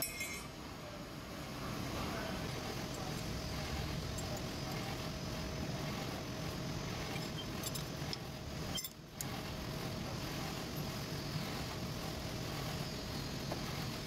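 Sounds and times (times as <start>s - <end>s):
workshop machinery humming: 0.0s - 14.0s.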